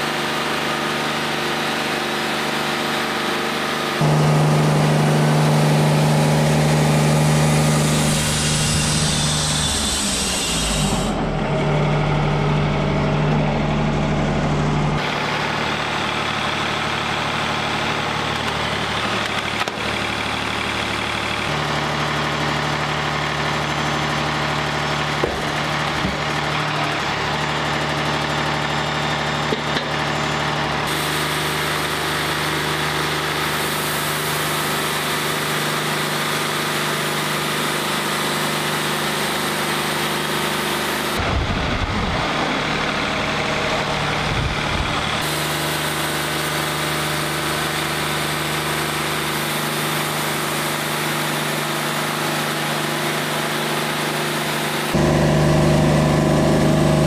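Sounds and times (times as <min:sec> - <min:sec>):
sawmill engine humming: 0:00.0 - 0:57.0.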